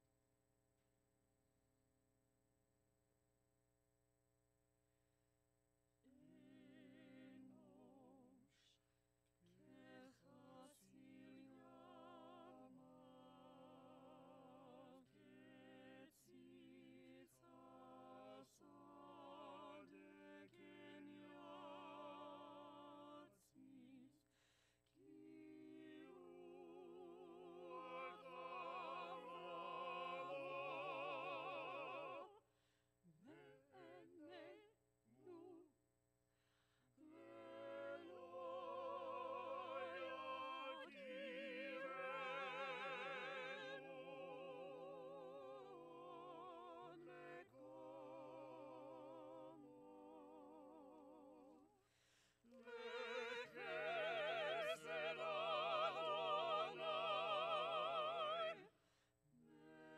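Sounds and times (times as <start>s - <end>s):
vocal ensemble singing in harmony: 6.1s - 8.7s, 9.4s - 32.5s, 33.2s - 35.7s, 37.0s - 59.9s.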